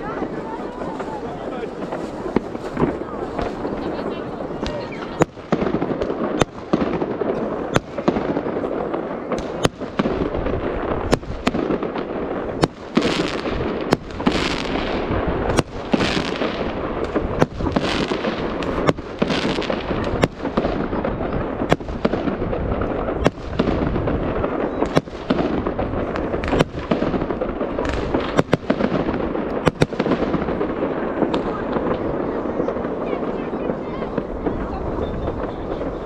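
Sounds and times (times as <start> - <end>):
fireworks bangs: 0.0 - 36.0
hissing crackling firework bursts: 0.0 - 36.0.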